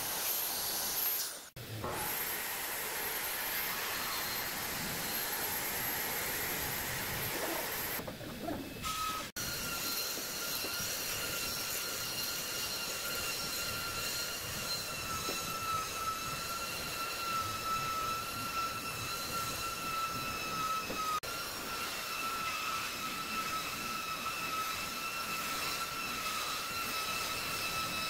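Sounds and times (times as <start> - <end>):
belt sander on wood: 0.0 - 28.0.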